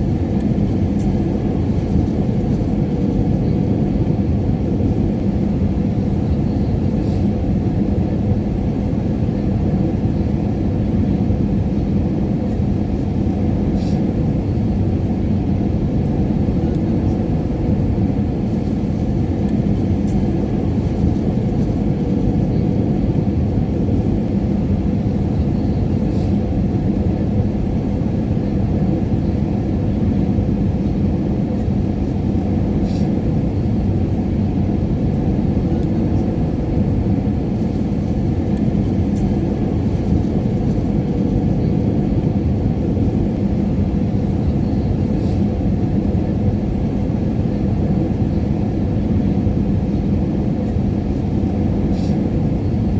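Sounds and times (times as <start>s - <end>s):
jet engine and airflow rumble: 0.0s - 52.9s.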